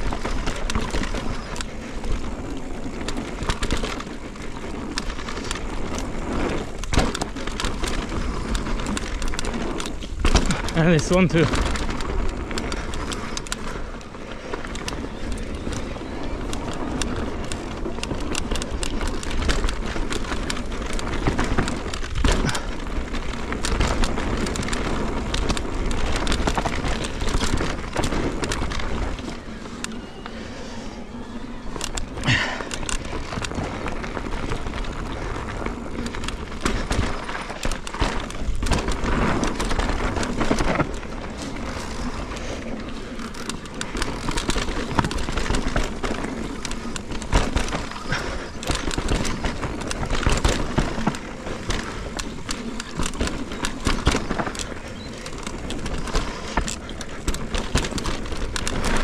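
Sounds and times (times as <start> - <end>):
bike clattering over bumps: 0.0 - 59.0
bike tyre noise on dirt: 0.0 - 59.0.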